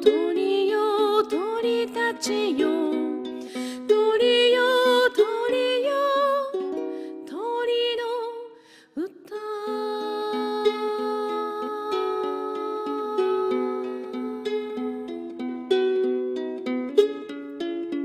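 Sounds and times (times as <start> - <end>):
woman singing a slow ballad: 0.0 - 6.6, 7.2 - 15.1
strummed ukulele: 0.0 - 18.0.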